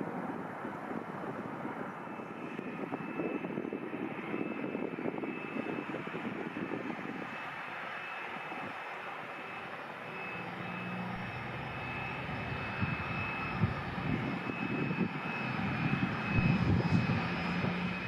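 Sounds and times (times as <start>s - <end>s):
high engine whine: 0.0s - 18.0s
jet engines roaring: 0.1s - 18.0s.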